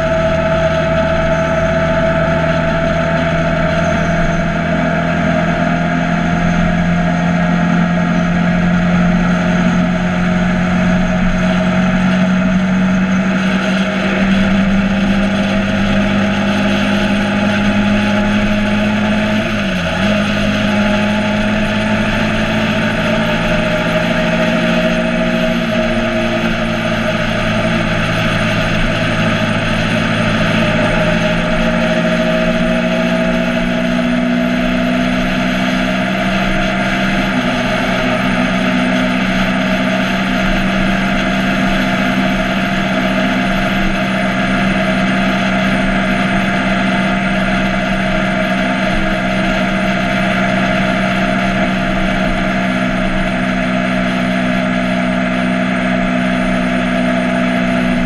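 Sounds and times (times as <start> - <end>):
motorcycle engine running: 0.0 - 58.0
steady rushing noise: 0.0 - 58.0.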